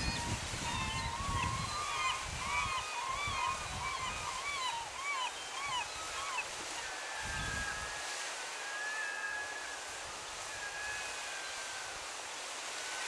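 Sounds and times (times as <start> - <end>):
low rumble of water or wind: 0.0 - 5.0, 5.8 - 13.0.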